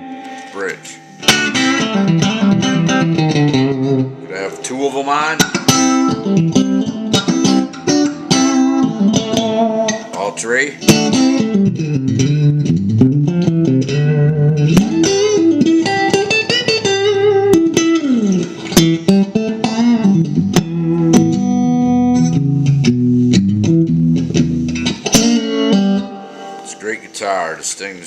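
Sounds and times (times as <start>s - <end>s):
guitar chord ringing: 0.0s - 26.7s
electric guitar notes with slides: 0.0s - 27.1s.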